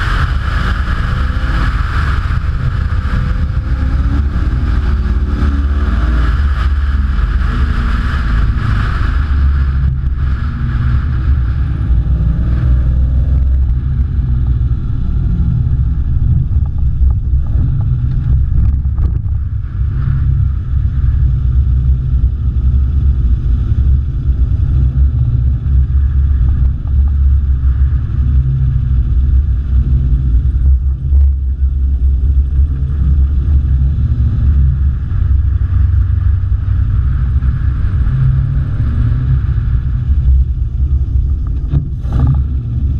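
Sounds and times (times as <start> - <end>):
car engine at low revs: 0.0 - 42.9
wind and road hiss: 0.0 - 42.9.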